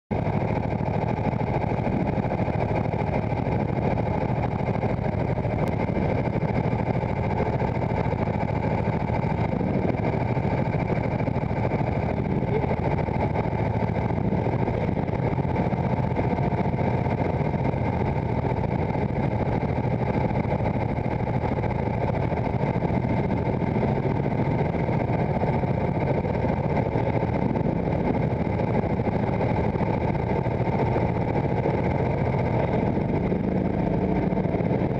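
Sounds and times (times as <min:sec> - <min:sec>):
go-kart engine idling: 0:00.1 - 0:34.9.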